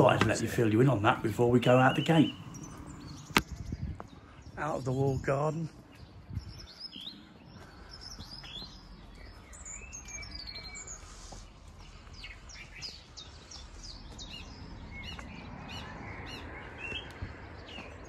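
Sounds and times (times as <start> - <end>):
steady low rumble: 0.0 - 10.6, 11.5 - 18.0
small birds chirping: 0.0 - 18.0.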